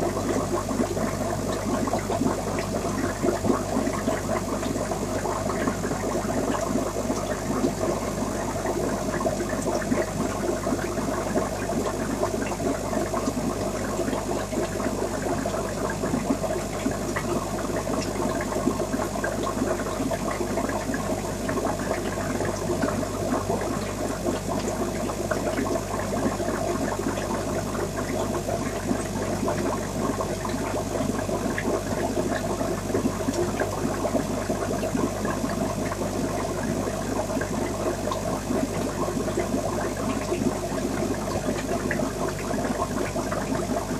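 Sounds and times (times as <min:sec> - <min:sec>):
water bubbling and trickling: 0:00.0 - 0:43.9.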